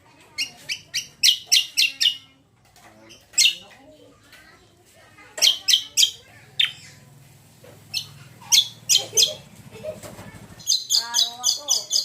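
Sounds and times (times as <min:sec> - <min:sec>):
songbird chirping: 0:00.2 - 0:04.3, 0:05.2 - 0:09.5, 0:10.4 - 0:12.0.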